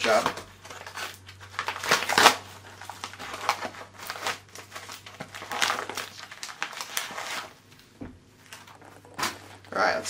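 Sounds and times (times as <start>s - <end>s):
padded mailer crinkling and rustling: 0.0s - 10.0s.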